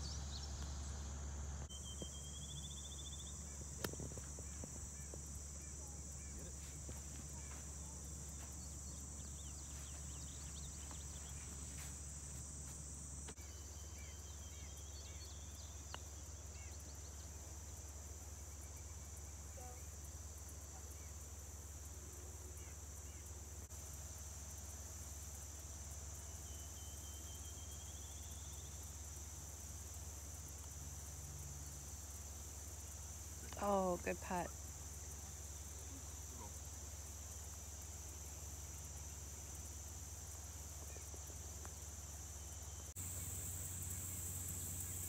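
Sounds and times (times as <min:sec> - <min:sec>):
insects chirring drone: 0:00.0 - 0:45.0.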